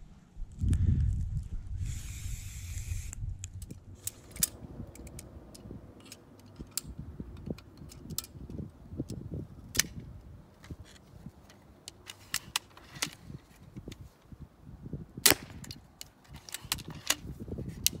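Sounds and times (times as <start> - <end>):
crossbow clicks and rattles: 0.5 - 14.3, 15.3 - 18.0.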